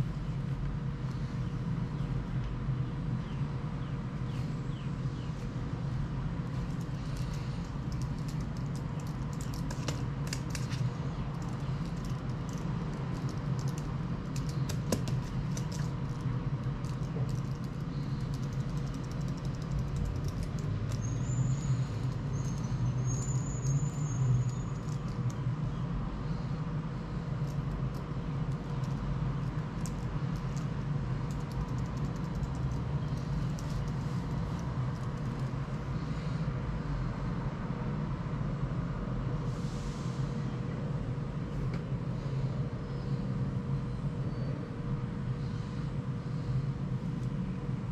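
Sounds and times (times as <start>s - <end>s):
low background hum: 0.0s - 47.9s.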